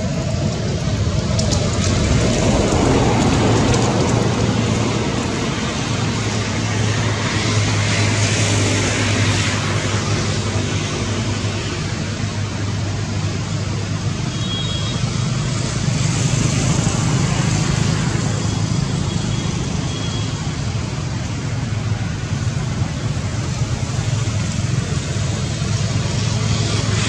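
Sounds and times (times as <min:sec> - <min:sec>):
traffic hum and hiss: 0:00.0 - 0:27.0.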